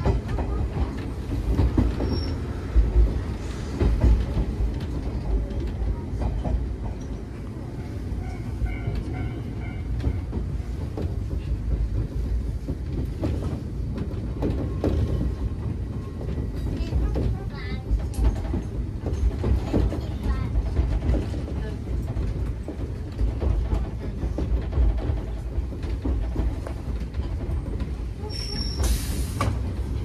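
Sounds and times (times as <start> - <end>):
train cabin low rumble: 0.0 - 30.0
wheel clacks over rail joints: 0.0 - 30.0.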